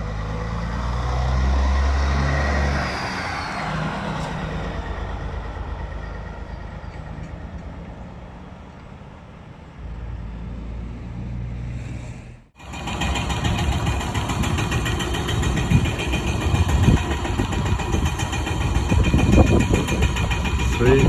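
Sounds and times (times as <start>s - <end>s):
diesel truck engine running: 0.0s - 11.4s, 12.2s - 21.0s
dump truck engine idling and rumbling: 0.0s - 21.0s.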